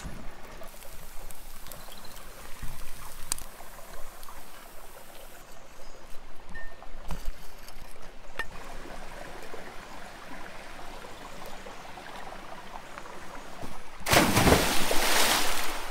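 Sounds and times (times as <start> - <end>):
stream running: 0.0 - 15.9.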